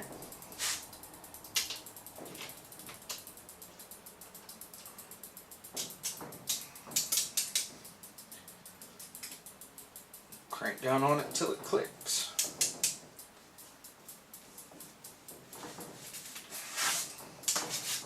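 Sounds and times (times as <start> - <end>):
torque wrench ratchet clicking: 0.0 - 18.0.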